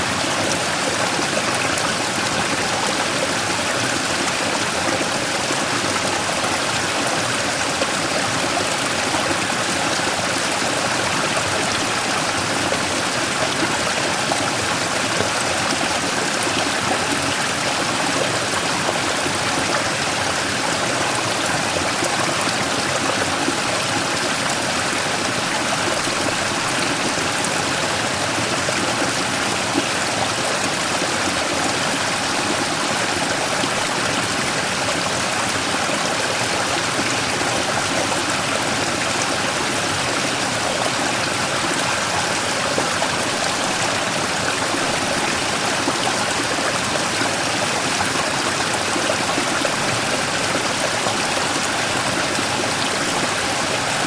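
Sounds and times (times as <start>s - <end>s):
stream flowing over rock: 0.0s - 54.0s.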